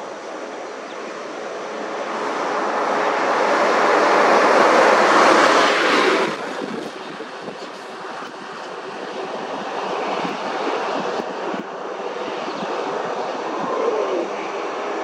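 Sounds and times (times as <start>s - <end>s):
road vehicle rushing: 0.0s - 15.0s.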